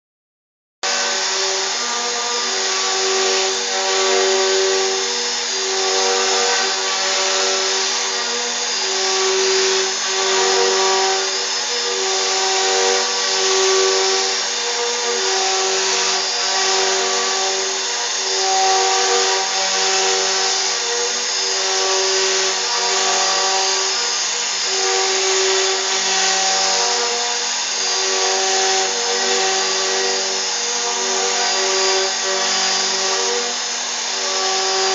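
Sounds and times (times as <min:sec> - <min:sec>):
router spindle running: 0:00.8 - 0:34.9
stepper motors whining: 0:00.9 - 0:34.9.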